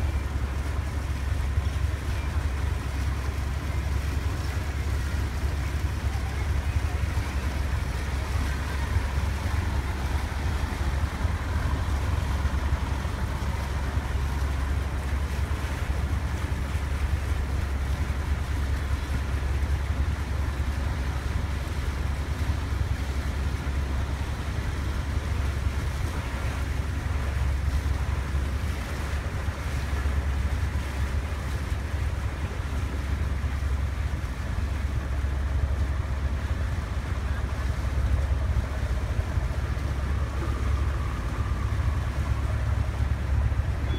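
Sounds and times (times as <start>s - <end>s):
boat engine rumble: 0.0s - 43.9s
water washing past: 0.0s - 43.9s.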